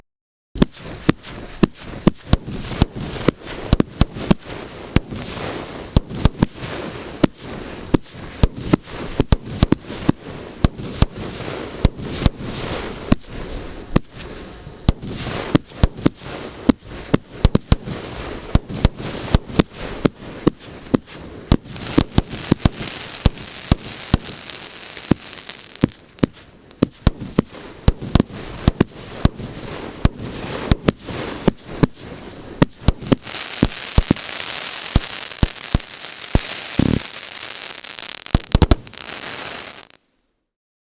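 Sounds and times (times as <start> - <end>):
firework battery bangs: 0.6 - 40.0
firework crackling hiss: 0.6 - 40.1.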